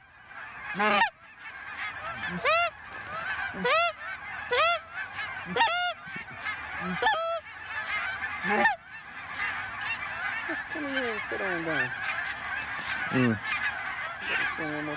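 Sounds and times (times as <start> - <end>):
flock of geese calling: 0.0 - 14.9
loud goose honks: 0.0 - 14.9.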